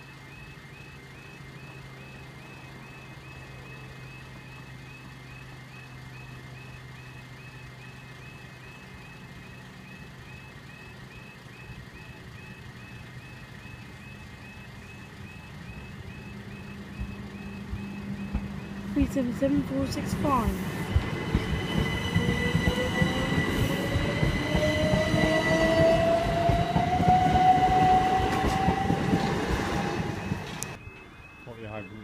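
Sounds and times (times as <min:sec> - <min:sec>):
crossing alarm chirping: 0:00.0 - 0:32.0
electric train rumble: 0:00.0 - 0:32.0.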